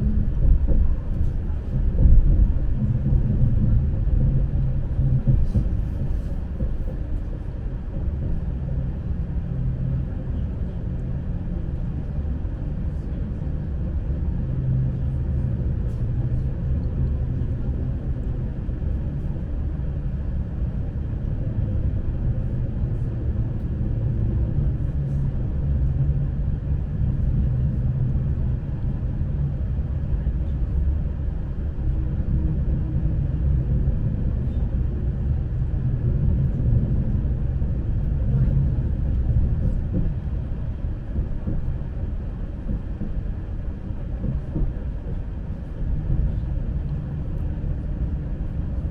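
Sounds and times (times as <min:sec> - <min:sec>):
electric train rumbling: 0:00.0 - 0:48.9.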